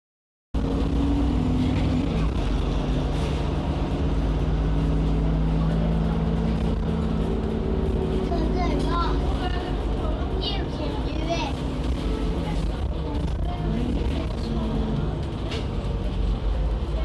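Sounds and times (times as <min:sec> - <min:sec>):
bus engine rumble: 0:00.6 - 0:17.0.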